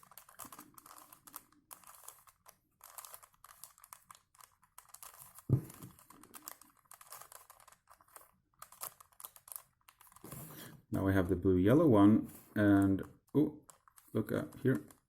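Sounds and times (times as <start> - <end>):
puzzle cube clicking and rattling: 0.0 - 10.4, 12.4 - 15.0.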